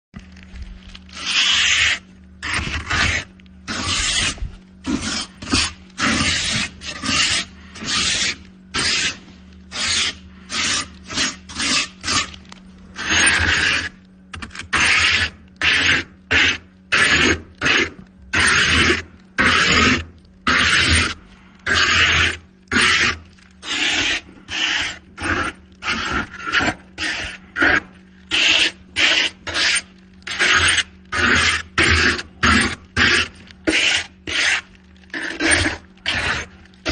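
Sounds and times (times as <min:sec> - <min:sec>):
ice being scraped: 0:00.2 - 0:36.9.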